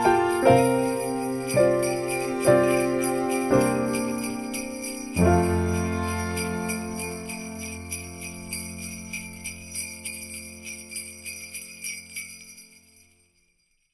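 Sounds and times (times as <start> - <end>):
festive music chord: 0.0 - 11.4
small bells being shaken: 0.0 - 13.9.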